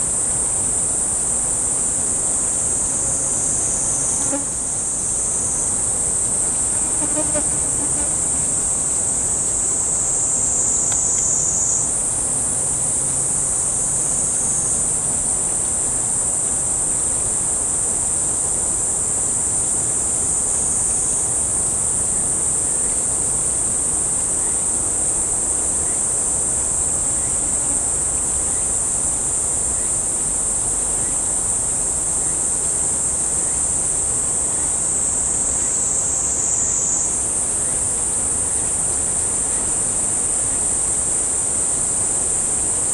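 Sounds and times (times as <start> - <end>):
insects singing: 0.0 - 42.9.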